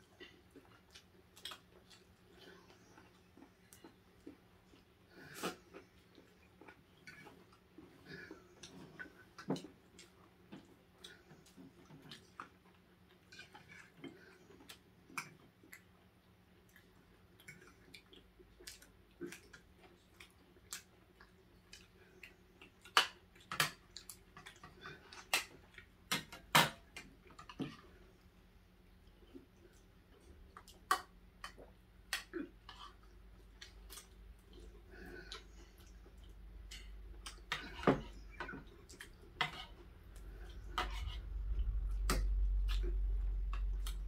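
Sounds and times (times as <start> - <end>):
chewing and mouth smacks: 0.1 - 7.9, 8.5 - 26.0, 29.0 - 44.0.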